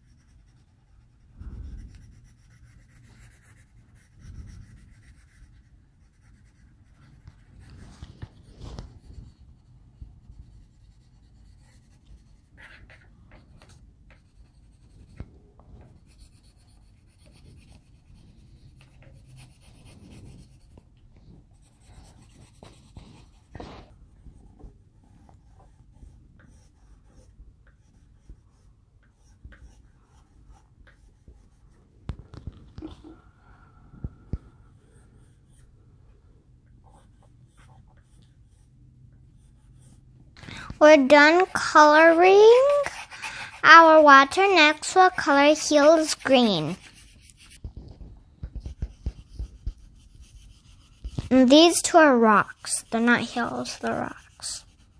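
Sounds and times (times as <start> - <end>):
pencil scratching on paper: 0.0 - 33.2, 34.7 - 35.8, 36.8 - 54.9.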